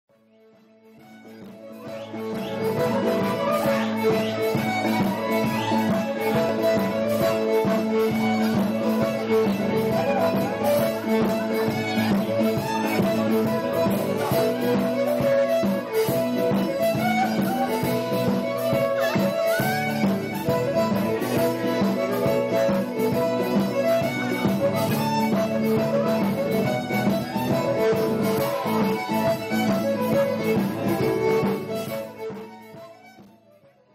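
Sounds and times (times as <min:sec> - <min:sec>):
live folk band playing dance tune: 0:00.2 - 0:33.9.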